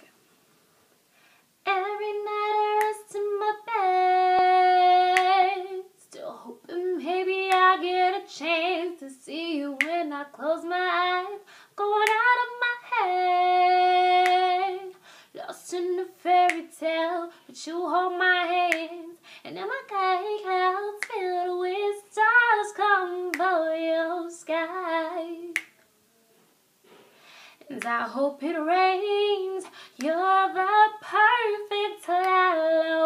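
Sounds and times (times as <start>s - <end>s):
woman singing a cappella: 1.6s - 25.8s, 27.6s - 33.0s.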